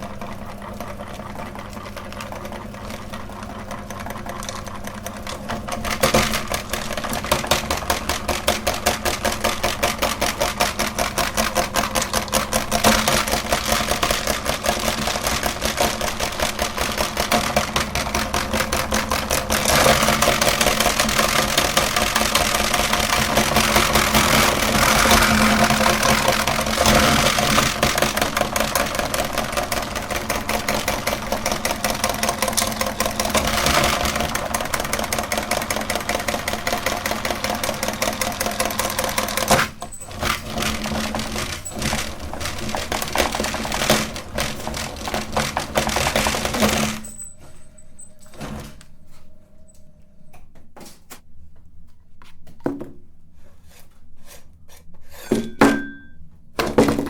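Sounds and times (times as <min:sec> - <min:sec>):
meat grinder motor humming: 0:00.0 - 0:47.1.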